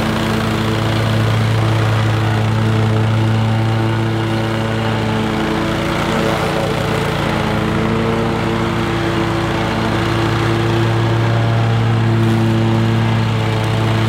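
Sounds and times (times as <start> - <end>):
mower engine cutting grass: 0.0 - 14.0.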